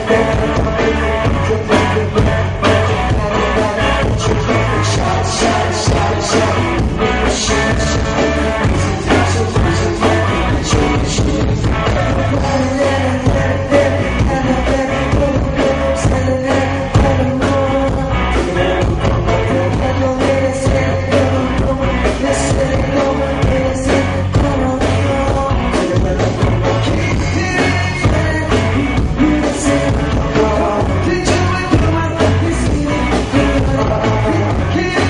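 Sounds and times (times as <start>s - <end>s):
drum beat: 0.0s - 35.0s
person singing: 0.0s - 35.0s
rock music: 0.0s - 35.0s.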